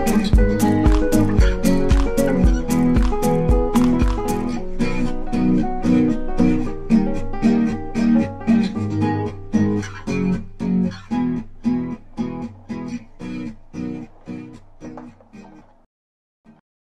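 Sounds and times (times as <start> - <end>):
guitar strumming chords: 0.0 - 15.7.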